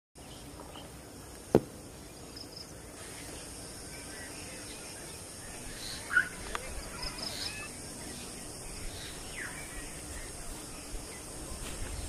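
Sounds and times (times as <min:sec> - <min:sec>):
high insect drone: 0:00.2 - 0:12.0
faint bird chirps: 0:02.1 - 0:12.0.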